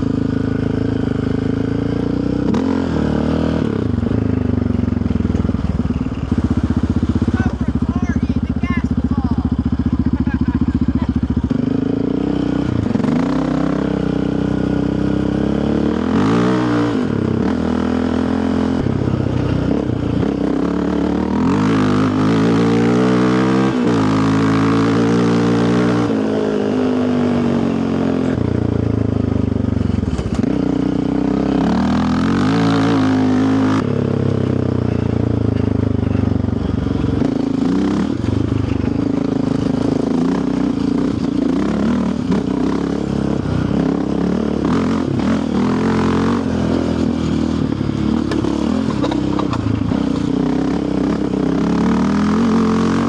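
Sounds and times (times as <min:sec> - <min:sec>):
quad engine revving: 0:00.0 - 0:53.0.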